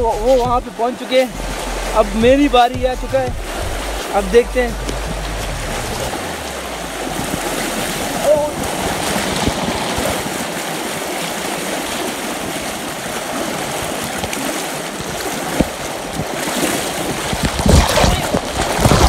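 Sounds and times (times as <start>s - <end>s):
river water rushing: 0.0s - 19.0s
water buffeting microphone: 0.0s - 19.0s.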